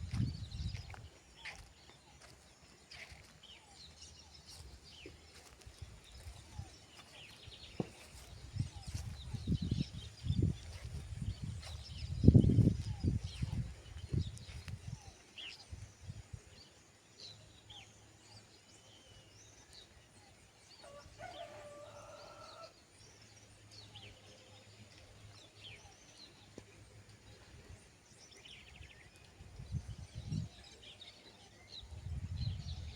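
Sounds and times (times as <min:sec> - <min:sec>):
faint birdsong chirps: 0:00.0 - 0:32.9.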